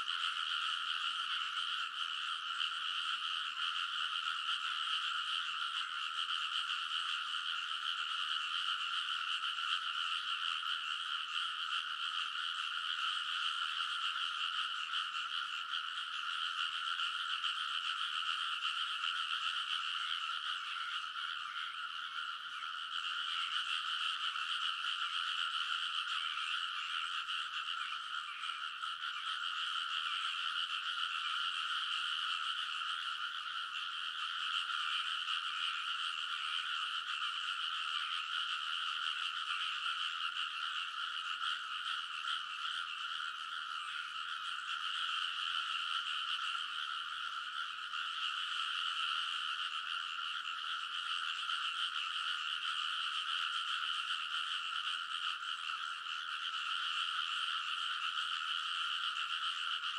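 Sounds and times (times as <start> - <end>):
chorus of frogs croaking: 0.0 - 59.9.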